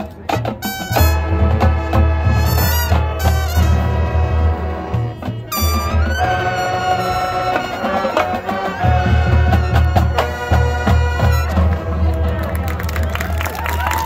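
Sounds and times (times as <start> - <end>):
brass holding chords: 0.6 - 12.7.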